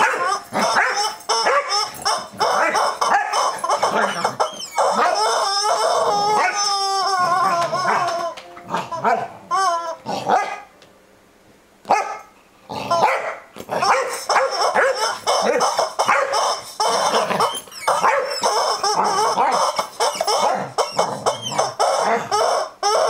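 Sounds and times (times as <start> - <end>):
dog barking and yipping: 0.0 - 9.3, 10.1 - 10.7, 11.9 - 12.3, 12.9 - 23.0
rubber chicken toy squawking: 0.0 - 10.4, 12.9 - 23.0.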